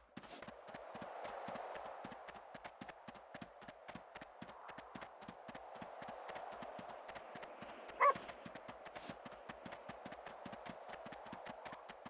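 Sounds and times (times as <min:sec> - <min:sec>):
dog footfalls clicking: 0:00.2 - 0:12.0.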